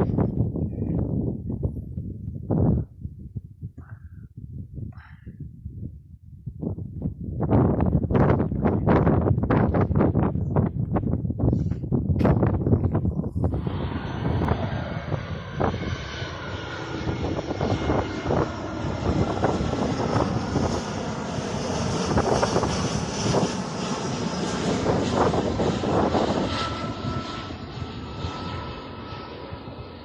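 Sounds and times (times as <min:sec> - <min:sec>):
airliner engine noise: 0:00.0 - 0:30.0.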